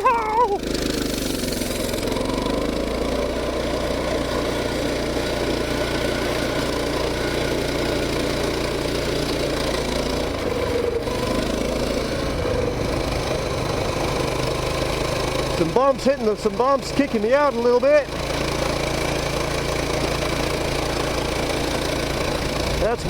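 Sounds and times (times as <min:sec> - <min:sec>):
mini bike engine running: 0:00.0 - 0:23.0.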